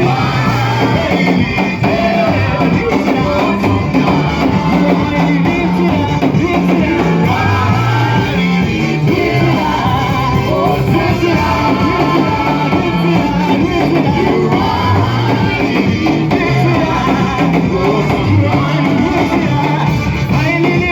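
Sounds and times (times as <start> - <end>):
church praise music with singing: 0.0 - 20.9.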